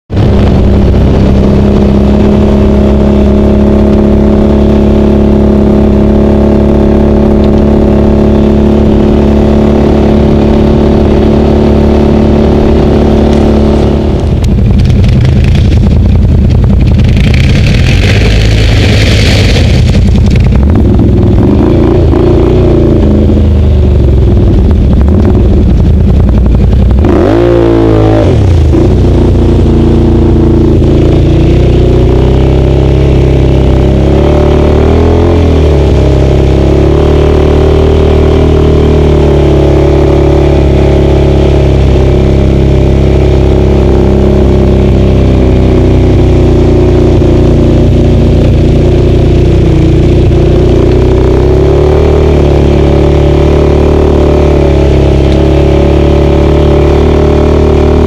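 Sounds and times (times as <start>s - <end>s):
atv engine running: 0.1s - 58.0s.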